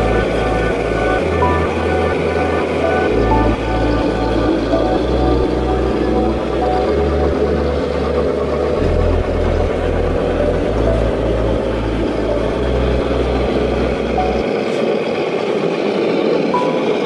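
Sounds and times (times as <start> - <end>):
pulsing music bass line: 0.0 - 14.5
model truck engines running: 0.0 - 17.0.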